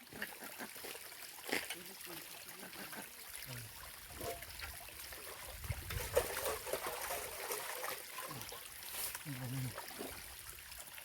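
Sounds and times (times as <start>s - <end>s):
water trickling in stream: 0.0s - 11.0s.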